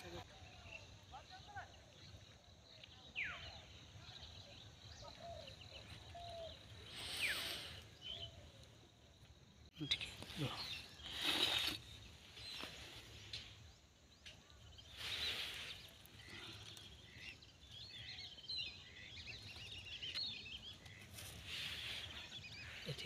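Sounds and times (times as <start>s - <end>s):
small birds chirping: 0.0s - 23.0s
soft outdoor background: 0.0s - 23.0s.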